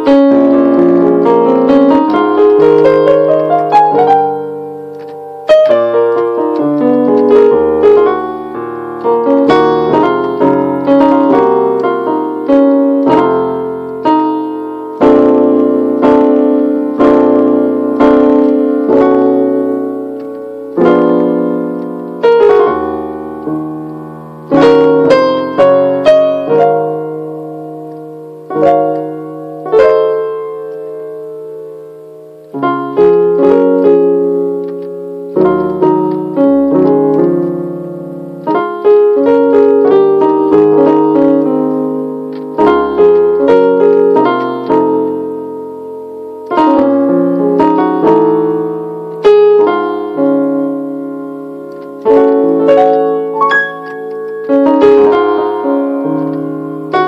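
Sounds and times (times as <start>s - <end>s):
keyboard piano chords: 0.0s - 57.0s.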